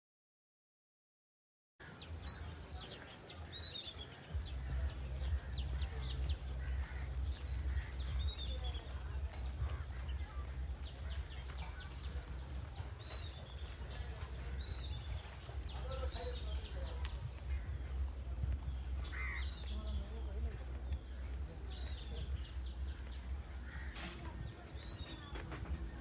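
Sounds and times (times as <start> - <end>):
birds chirping and calling: 1.8 - 26.0.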